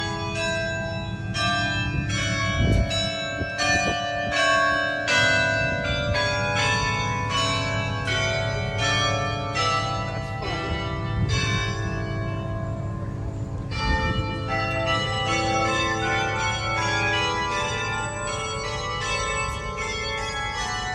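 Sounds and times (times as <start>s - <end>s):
tower bells ringing: 0.0s - 20.9s.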